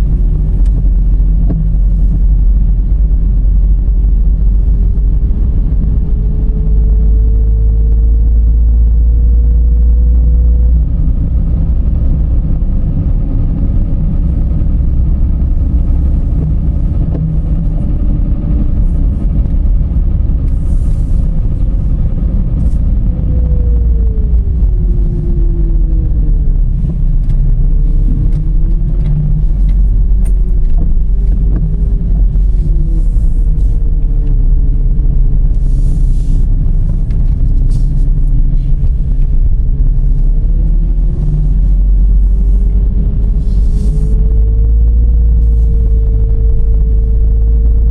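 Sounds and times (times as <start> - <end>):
car road and engine rumble: 0.0 - 47.9
hum rising in pitch: 0.0 - 47.9.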